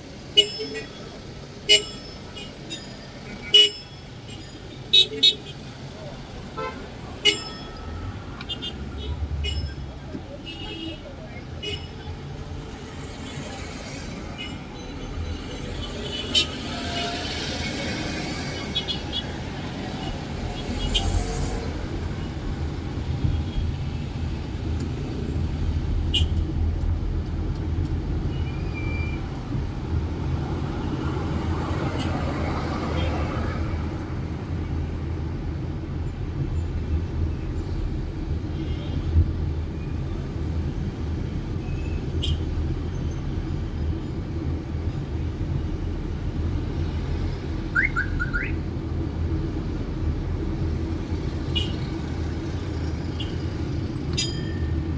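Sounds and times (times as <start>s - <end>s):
road traffic rumble: 0.0s - 54.9s.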